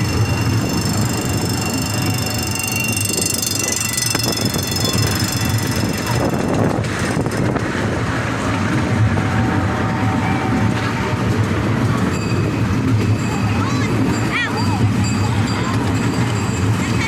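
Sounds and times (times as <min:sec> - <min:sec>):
miniature train rumbling on track: 0:00.0 - 0:17.0.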